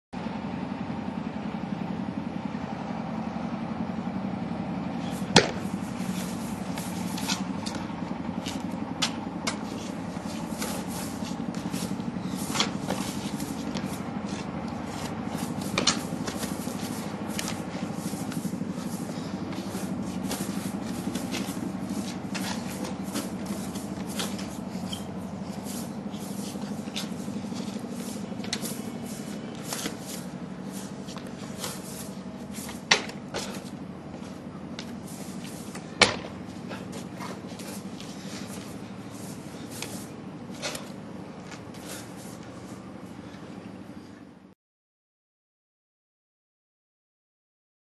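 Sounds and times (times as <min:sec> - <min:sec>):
steady low hum: 0:00.2 - 0:44.5.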